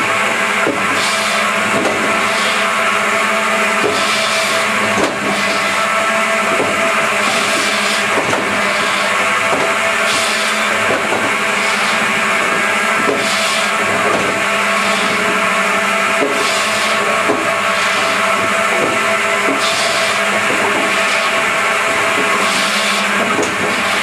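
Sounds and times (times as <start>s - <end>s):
circular saw machine humming: 0.0s - 24.0s
saw blades cutting wood: 0.0s - 24.0s.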